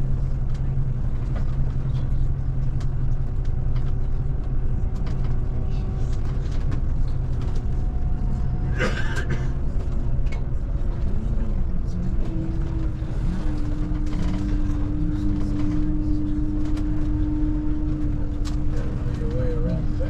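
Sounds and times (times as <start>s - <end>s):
coach diesel engine drone: 0.0s - 20.0s.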